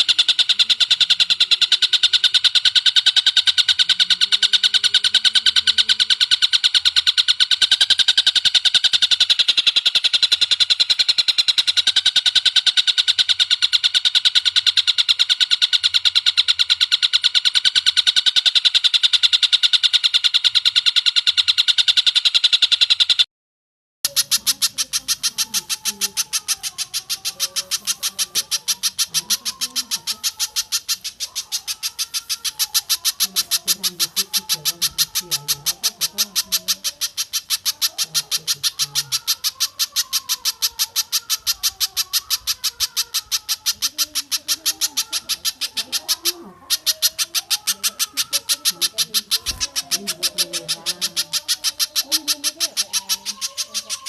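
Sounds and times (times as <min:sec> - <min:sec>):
bird calling repeated notes: 0:00.0 - 0:23.3, 0:24.1 - 0:54.0.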